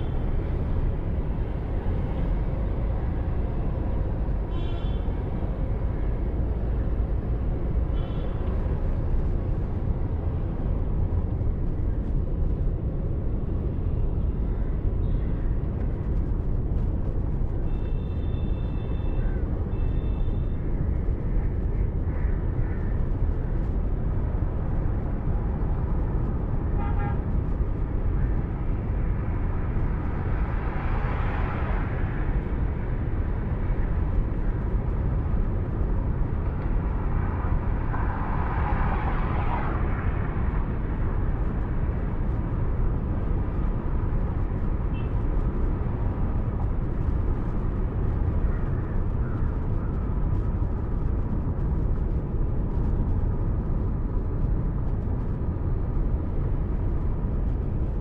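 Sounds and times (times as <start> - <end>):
car driving road rumble: 0.0 - 58.0
vehicles passing: 0.0 - 58.0.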